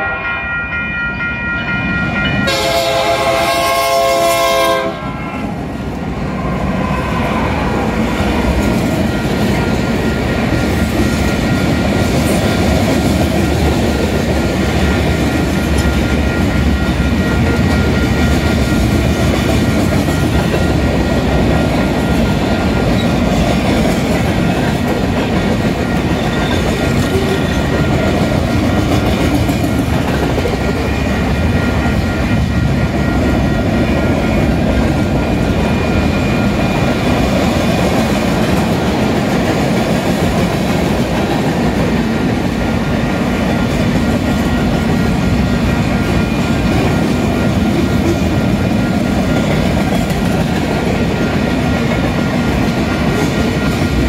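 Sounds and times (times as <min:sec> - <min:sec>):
train wheels rumbling on rails: 0:00.8 - 0:54.0.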